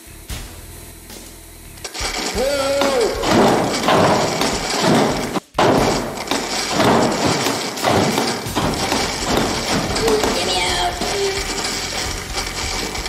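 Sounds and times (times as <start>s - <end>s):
thumping and rattling in metal can: 1.9s - 13.0s.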